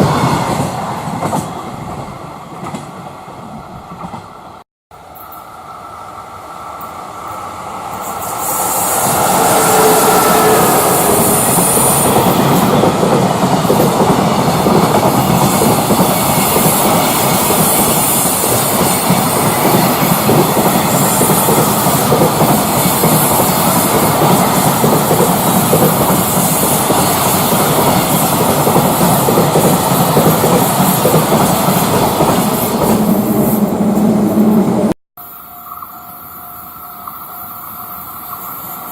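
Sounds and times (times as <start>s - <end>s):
electric locomotive whine: 3.4s - 38.9s.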